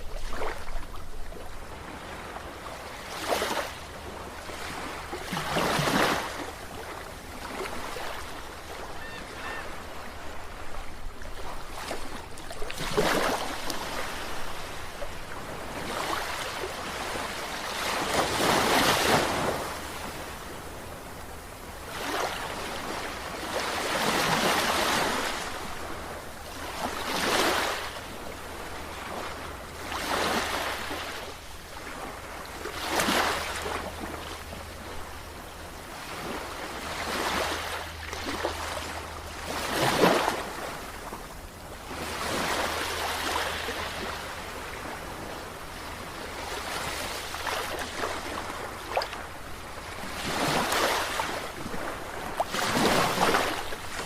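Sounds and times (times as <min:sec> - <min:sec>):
sea waves breaking: 0:00.0 - 0:21.2, 0:21.8 - 0:54.0.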